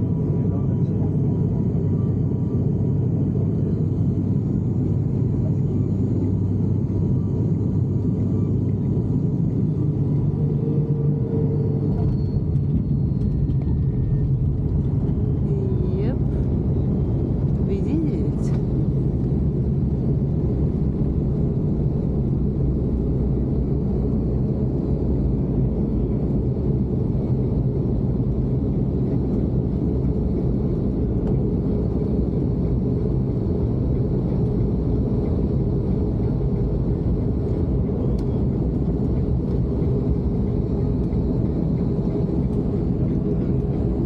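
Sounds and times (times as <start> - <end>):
airliner engine drone in cabin: 0.0 - 44.0.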